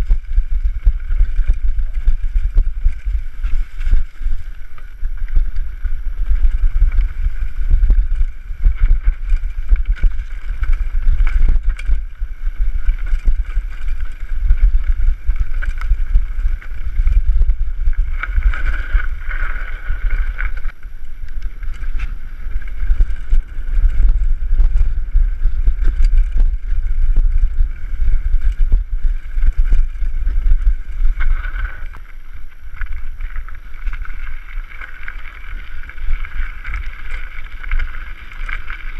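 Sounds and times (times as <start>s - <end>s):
bike rattling and knocking: 0.0s - 32.1s
wind buffeting microphone: 0.0s - 38.9s.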